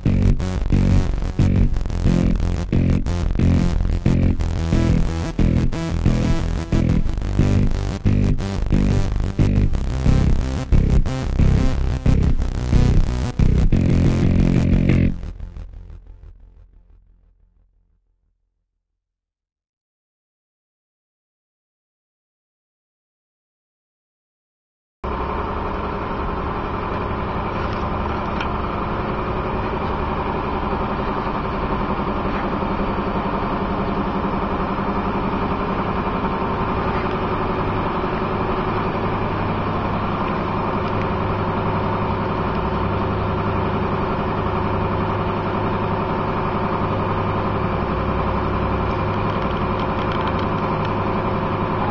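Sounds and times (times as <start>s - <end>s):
engine humming steadily: 0.0s - 16.0s, 25.1s - 51.9s.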